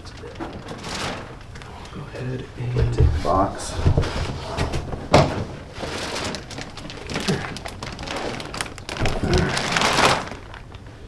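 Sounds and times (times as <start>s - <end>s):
plastic bag crackling and rustling: 0.0s - 2.0s, 3.2s - 11.0s.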